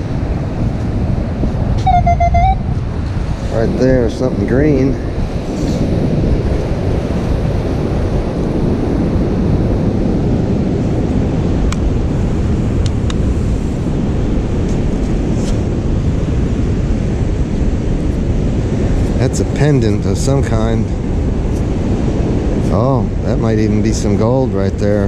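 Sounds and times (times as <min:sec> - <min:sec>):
wind buffeting the microphone: 0:00.0 - 0:25.0.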